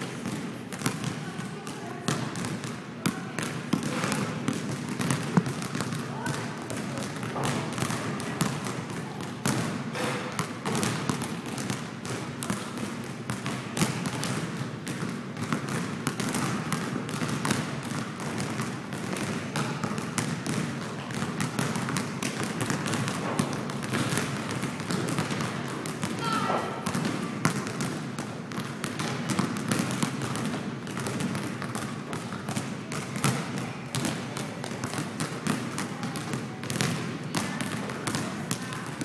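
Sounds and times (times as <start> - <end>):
basketballs bouncing on gym floor: 0.0 - 39.0.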